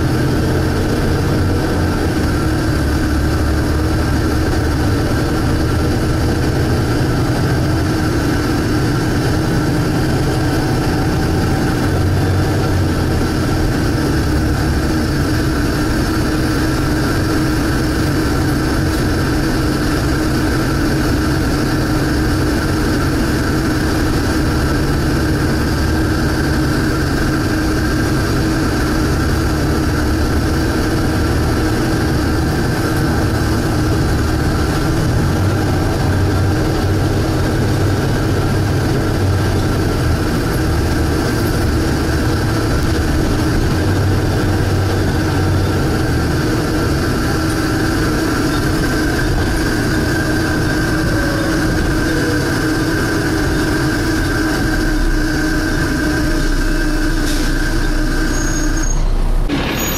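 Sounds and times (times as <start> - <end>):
bus diesel engine rumble: 0.0 - 59.9
steady high whine: 0.0 - 59.9.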